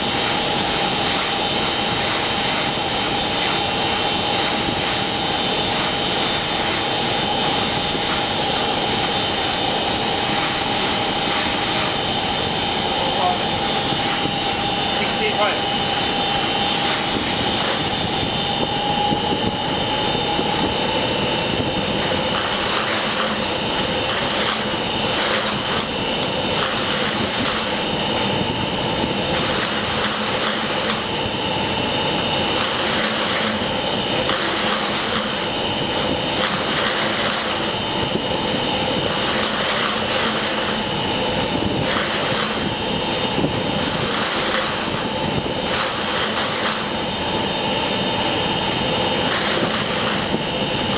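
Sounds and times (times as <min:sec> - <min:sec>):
industrial machine droning: 0:00.0 - 0:50.9.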